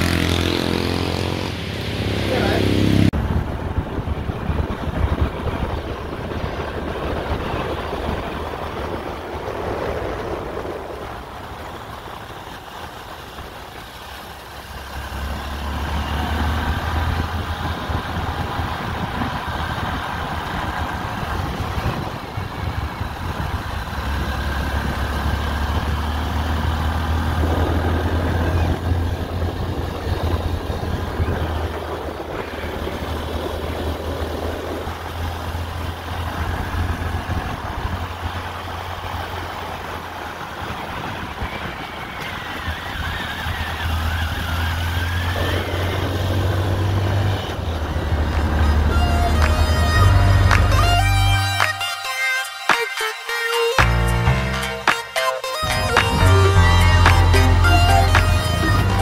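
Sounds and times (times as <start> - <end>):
vehicle engines running: 0.0 - 51.9, 53.8 - 59.0
road noise: 0.0 - 59.0.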